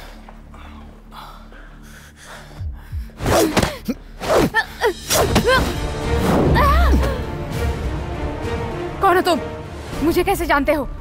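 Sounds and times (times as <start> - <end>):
dramatic soundtrack music: 0.0 - 11.0.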